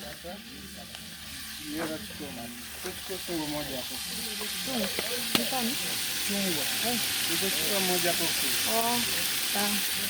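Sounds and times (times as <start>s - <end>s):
food sizzling in a pan: 0.0s - 10.0s
voices talking: 0.0s - 10.0s.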